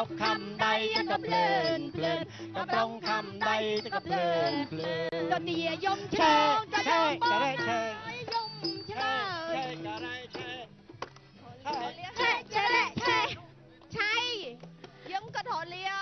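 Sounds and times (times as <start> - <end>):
instrumental accompaniment: 0.0 - 15.4.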